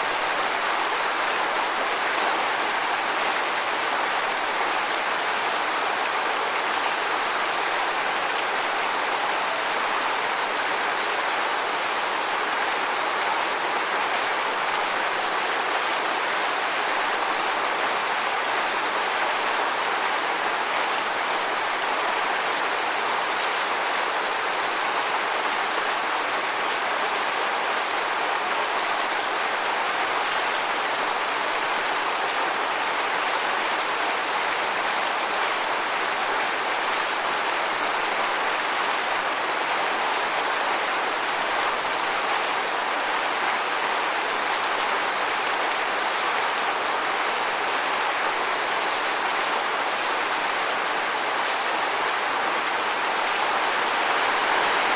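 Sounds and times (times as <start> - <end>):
waterfall pouring and splashing: 0.0 - 54.9.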